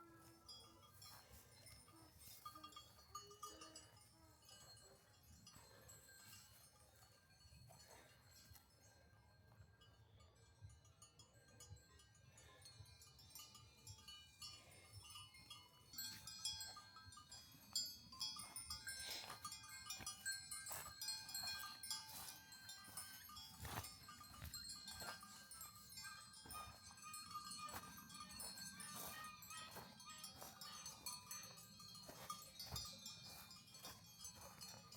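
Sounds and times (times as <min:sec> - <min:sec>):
livestock bells clinking: 0:00.0 - 0:34.9.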